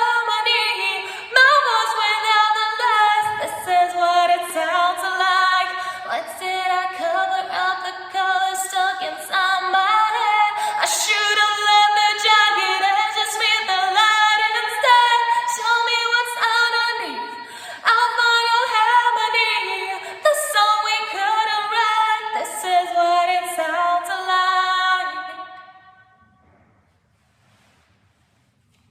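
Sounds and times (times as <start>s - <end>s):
woman singing a cappella: 0.0s - 26.0s.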